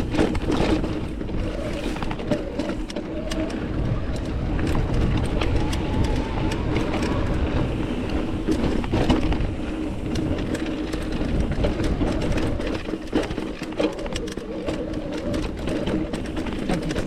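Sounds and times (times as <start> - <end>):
bike clicking and rattling: 0.0 - 17.0
bike tyres rumbling on rock: 0.0 - 17.0.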